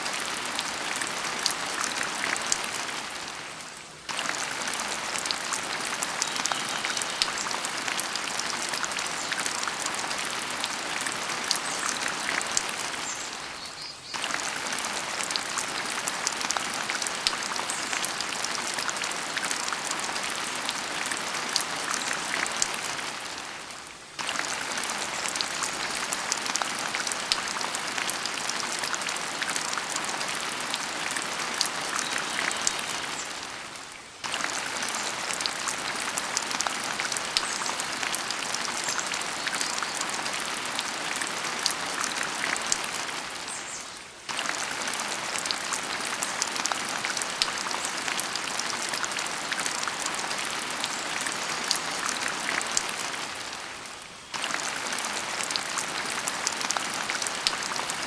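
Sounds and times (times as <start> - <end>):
rain patter: 0.0 - 58.0.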